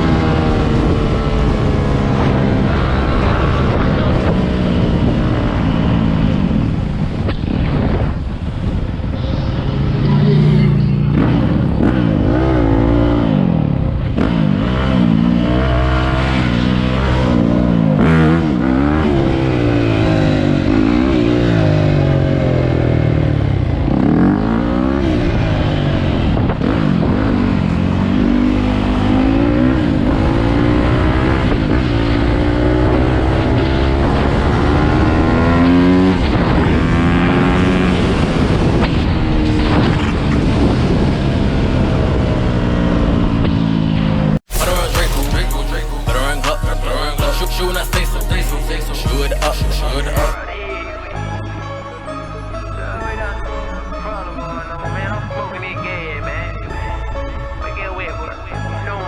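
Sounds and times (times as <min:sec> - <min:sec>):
dirt bike engines revving: 0:00.0 - 0:42.7, 0:44.4 - 0:50.4.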